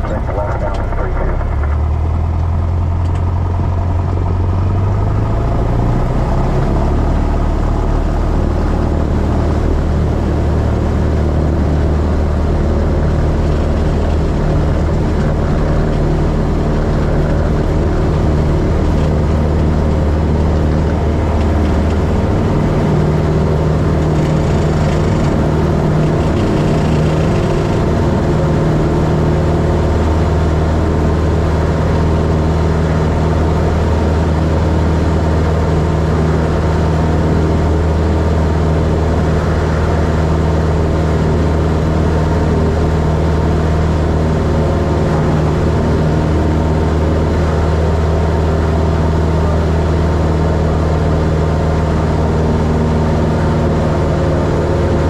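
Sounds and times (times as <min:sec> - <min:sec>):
propeller plane engine at full power: 0:00.0 - 0:55.0.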